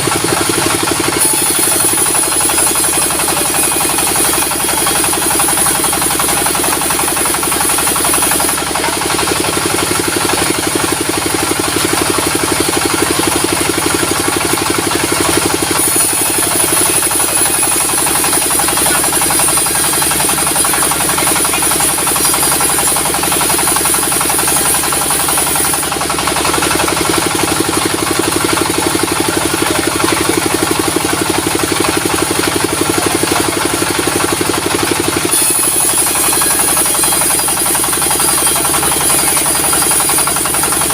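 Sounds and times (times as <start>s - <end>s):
engine drone: 0.0s - 40.9s
sawmill saw ripping a log: 0.0s - 40.9s.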